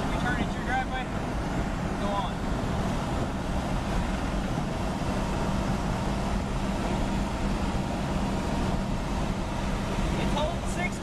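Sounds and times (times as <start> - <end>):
engine drone: 0.0 - 11.0
road and wind noise: 0.0 - 11.0.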